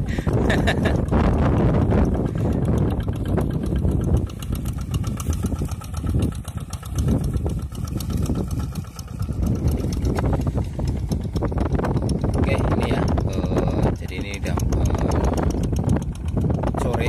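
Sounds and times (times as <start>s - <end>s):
diesel hand tractor chugging: 0.0s - 17.0s.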